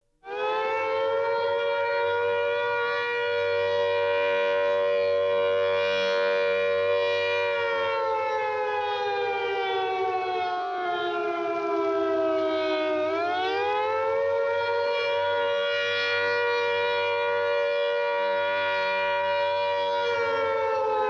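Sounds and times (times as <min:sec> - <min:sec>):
air raid siren wailing: 0:00.2 - 0:21.0.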